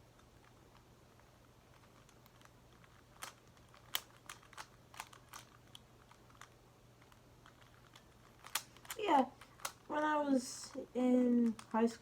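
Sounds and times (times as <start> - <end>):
low steady hum: 0.0 - 12.0
puzzle cube clicking: 0.1 - 9.9, 11.4 - 11.8.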